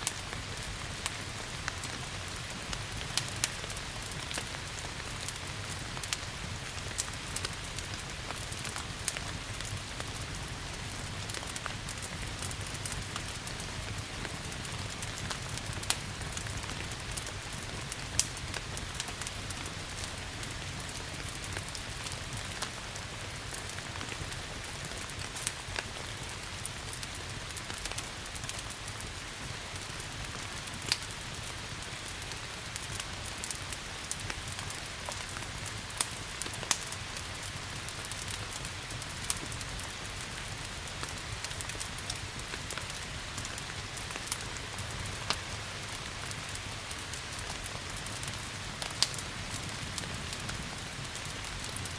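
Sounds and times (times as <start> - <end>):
steady rain: 0.0 - 51.9
wood fire crackling: 0.0 - 51.9.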